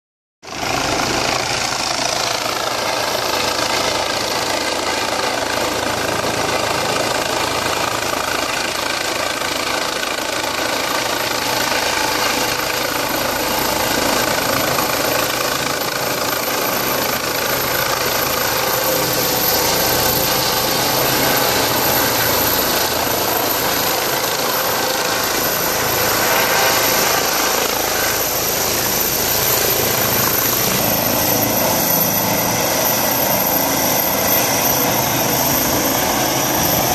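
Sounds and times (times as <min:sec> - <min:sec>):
helicopter rotor drone: 0:00.4 - 0:36.9.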